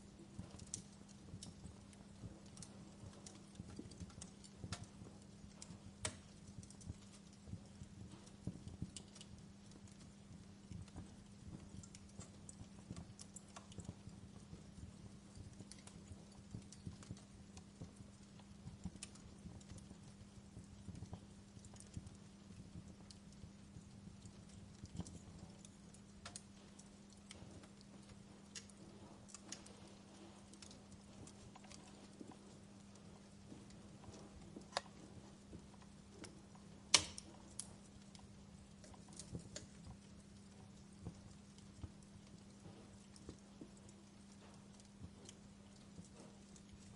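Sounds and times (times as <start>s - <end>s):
low steady hum: 0.0s - 46.9s
wood fire crackling: 0.0s - 46.9s.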